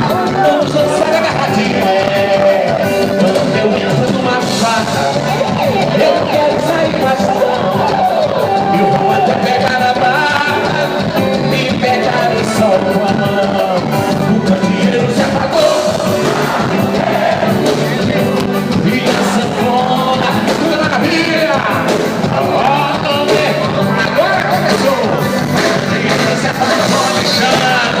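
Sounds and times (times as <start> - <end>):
crowd voices: 0.0 - 28.0
driving percussion beat: 0.0 - 28.0
live band with singer: 0.0 - 28.0.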